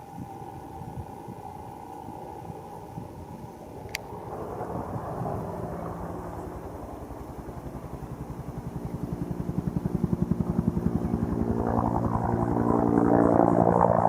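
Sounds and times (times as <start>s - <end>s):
helicopter rotor blades beating: 0.0s - 14.0s.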